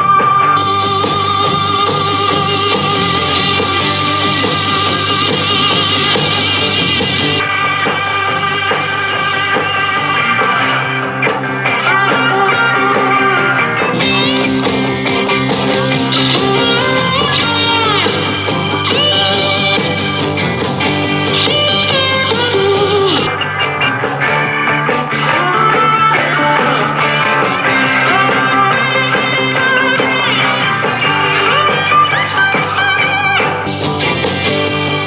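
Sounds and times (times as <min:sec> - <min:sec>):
blues-rock music through small speaker: 0:00.0 - 0:35.0.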